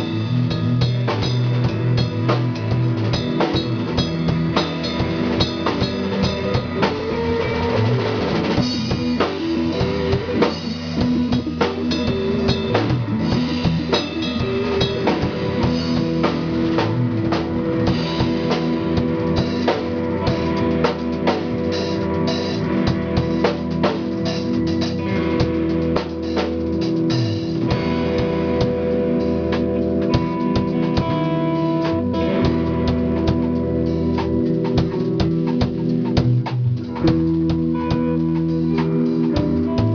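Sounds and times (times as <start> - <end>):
bass drum steady beat: 0.0 - 39.9
live band playing: 0.0 - 39.9.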